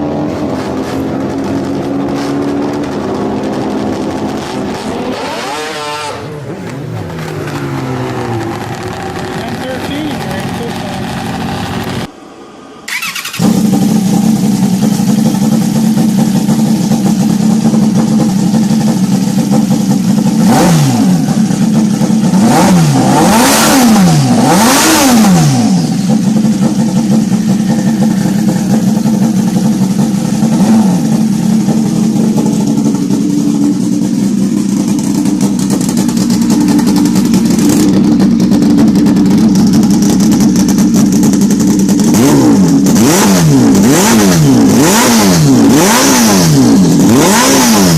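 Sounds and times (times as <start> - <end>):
motorcycle engine revving: 0.0 - 12.1, 12.9 - 47.9
motorcycle engine idling: 1.0 - 23.1, 25.3 - 47.9.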